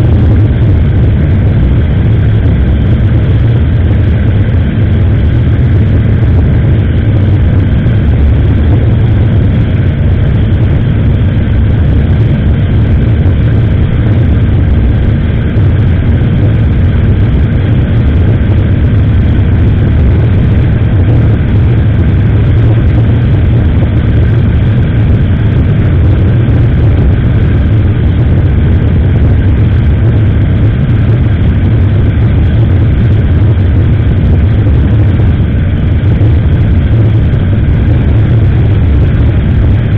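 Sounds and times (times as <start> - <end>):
motorcycle engine rumble: 0.0 - 39.9
road noise: 0.0 - 39.9.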